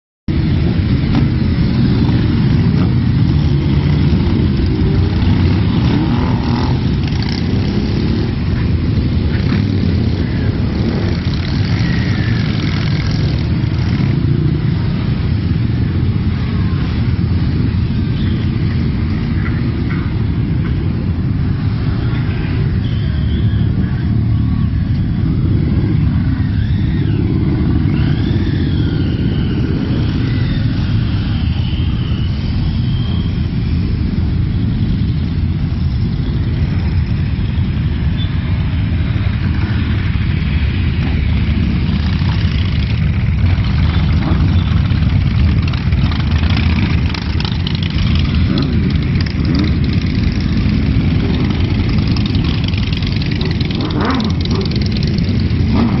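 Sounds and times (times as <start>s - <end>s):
motorcycles riding past: 0.3s - 56.0s.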